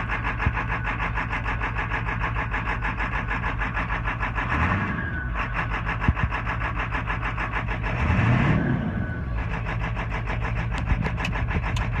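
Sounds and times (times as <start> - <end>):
diesel engine idling clatter: 0.0 - 12.0.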